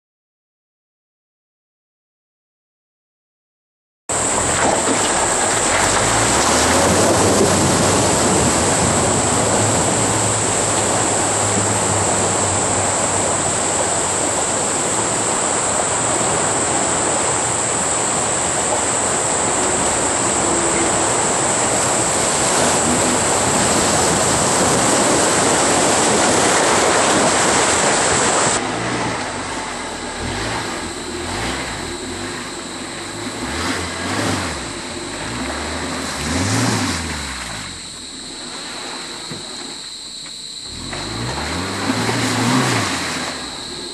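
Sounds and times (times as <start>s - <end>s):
water rushing and splashing: 4.1s - 39.9s, 40.6s - 43.9s
car engine running: 4.1s - 43.9s.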